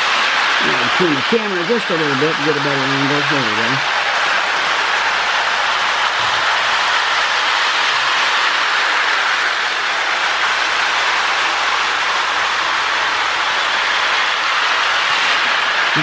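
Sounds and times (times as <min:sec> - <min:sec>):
toy train whirring: 0:00.0 - 0:16.0.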